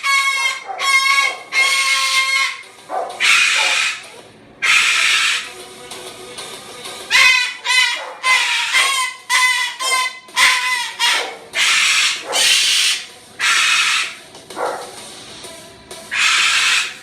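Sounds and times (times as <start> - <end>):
cockatoo calling and screeching: 0.0 - 5.6, 7.1 - 14.9, 16.1 - 17.0.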